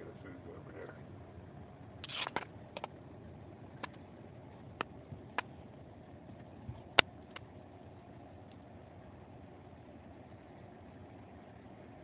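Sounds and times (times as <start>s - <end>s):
faint steady background noise: 0.0s - 12.0s.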